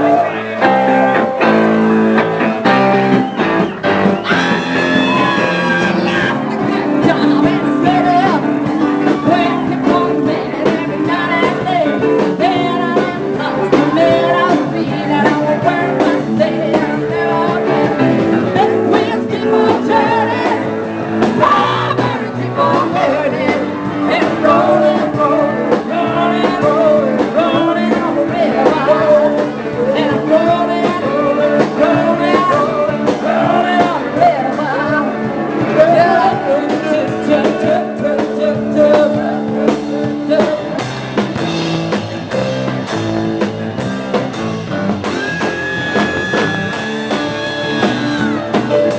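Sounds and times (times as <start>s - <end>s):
live rock and roll band: 0.0s - 48.9s.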